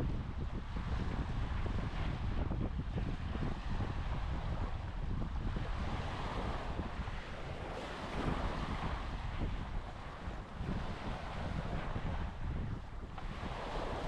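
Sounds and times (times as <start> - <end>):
waves washing onto sand: 0.0 - 14.0
wind buffeting microphone: 0.0 - 14.0.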